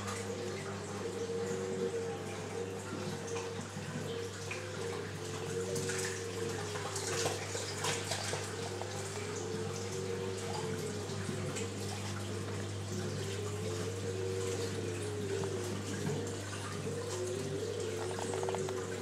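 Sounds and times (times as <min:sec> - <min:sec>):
steady low hum: 0:00.0 - 0:19.0
water trickling and splashing: 0:00.0 - 0:19.0.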